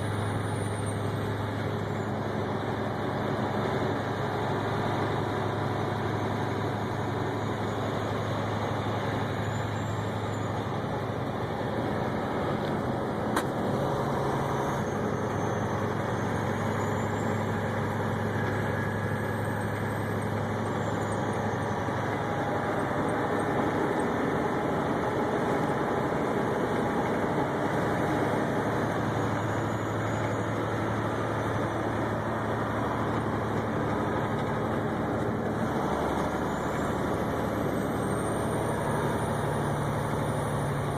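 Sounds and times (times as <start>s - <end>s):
vehicle cabin engine and road noise: 0.0s - 40.9s.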